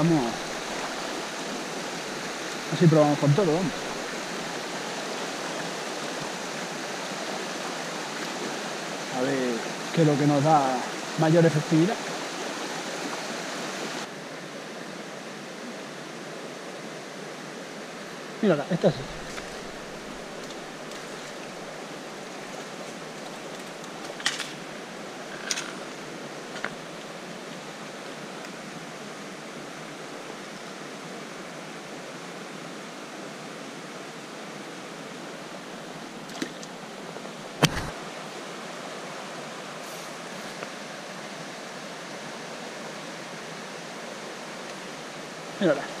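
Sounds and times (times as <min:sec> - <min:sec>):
river rushing over stones: 0:00.0 - 0:46.0.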